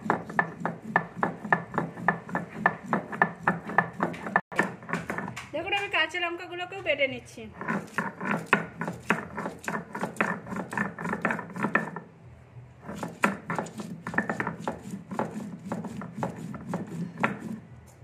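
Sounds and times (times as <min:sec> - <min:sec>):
stone scraping on stone: 0:00.0 - 0:05.4, 0:07.5 - 0:12.1, 0:12.8 - 0:17.6.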